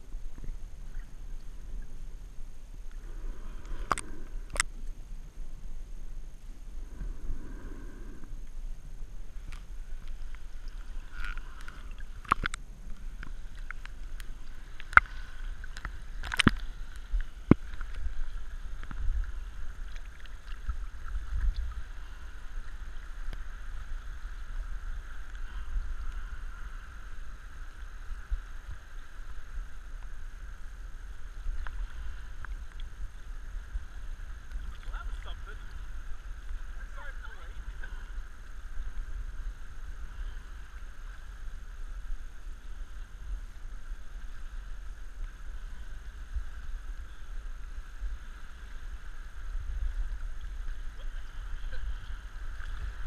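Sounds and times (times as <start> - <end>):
low rumbling: 0.0 - 53.0
muffled water sloshing: 0.0 - 53.0.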